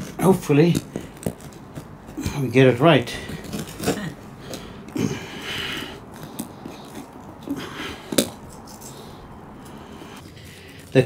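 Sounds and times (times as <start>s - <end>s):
scratchy scraping and handling: 0.0s - 4.7s, 5.8s - 11.0s.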